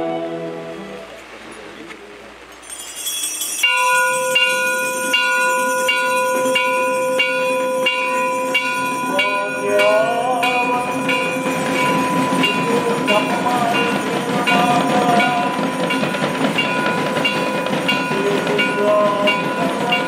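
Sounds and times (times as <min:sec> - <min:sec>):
bells ringing: 0:02.5 - 0:20.0.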